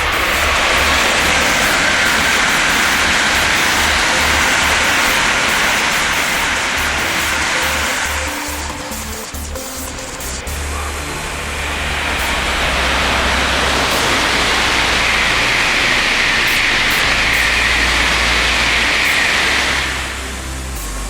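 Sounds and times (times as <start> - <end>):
high-speed train passing: 0.0 - 20.7.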